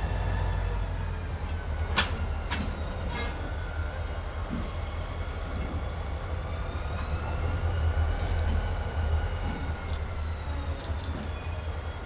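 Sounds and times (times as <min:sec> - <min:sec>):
diesel locomotive engines rumbling: 0:00.0 - 0:12.0.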